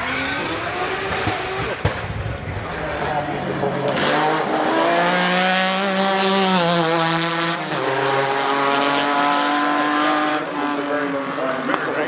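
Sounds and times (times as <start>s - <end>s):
car engine pulling hard: 0.0s - 12.0s.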